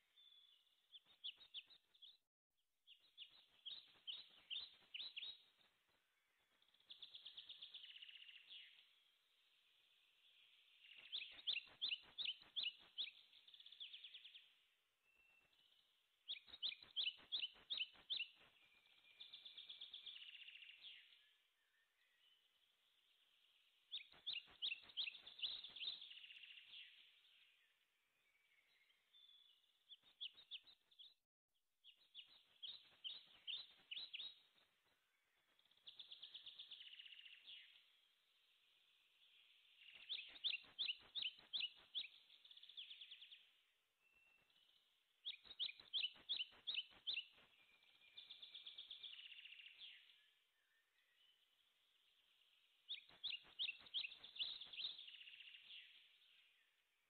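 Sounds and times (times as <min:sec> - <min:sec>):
songbirds chirping: 0:00.0 - 0:31.2, 0:31.8 - 0:57.0.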